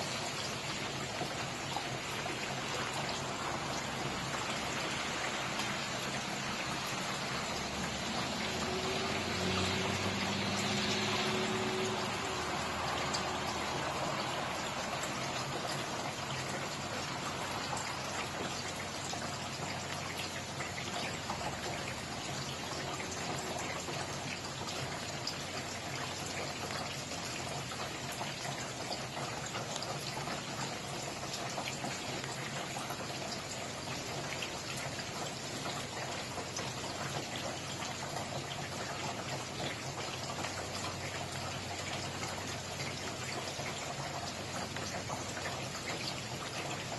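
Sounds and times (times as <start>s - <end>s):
raindrops ticking: 0.0s - 46.9s
steady rain hiss: 0.0s - 46.9s.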